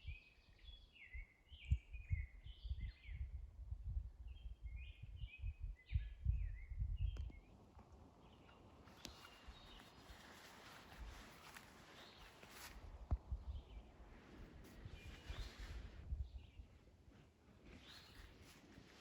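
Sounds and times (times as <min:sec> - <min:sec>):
songbird singing: 0:00.0 - 0:03.4, 0:04.2 - 0:16.9, 0:17.6 - 0:19.0.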